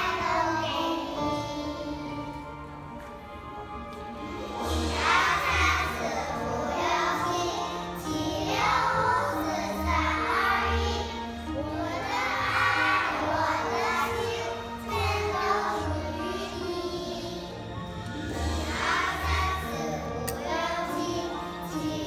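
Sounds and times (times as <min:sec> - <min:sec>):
children singing in unison: 0:00.0 - 0:02.9, 0:04.4 - 0:22.0
held bass notes accompaniment: 0:00.0 - 0:22.0.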